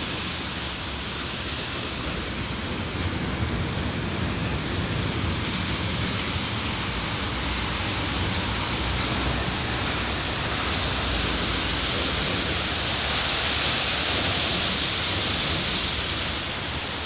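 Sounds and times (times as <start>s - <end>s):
city traffic roar: 0.0s - 17.0s
electric train running overhead: 0.0s - 17.0s.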